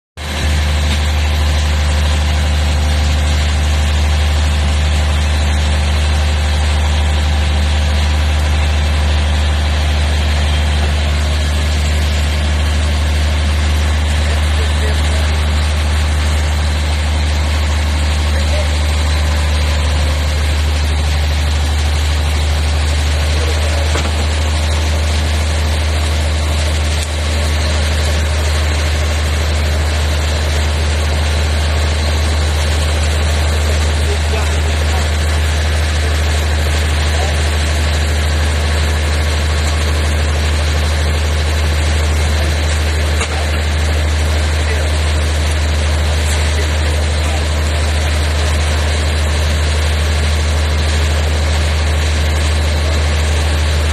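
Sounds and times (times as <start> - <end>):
boat engine droning: 0.2 - 53.9.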